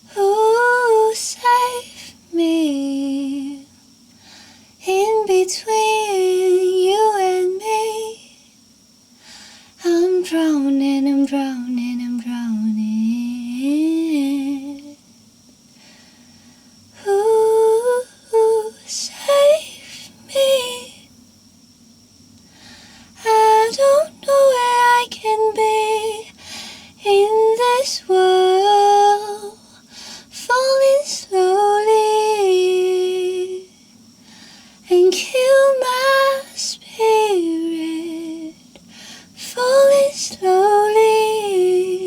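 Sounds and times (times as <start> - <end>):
woman singing wordless melody: 0.0 - 8.6, 9.3 - 15.0, 17.0 - 21.1, 23.1 - 42.0.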